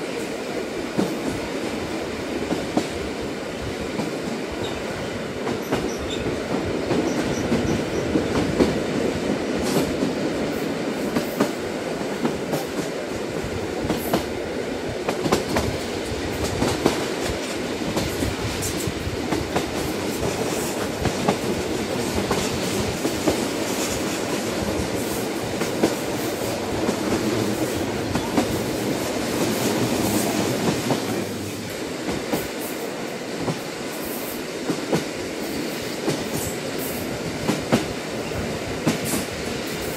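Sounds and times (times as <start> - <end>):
train rumbling: 0.0 - 39.9.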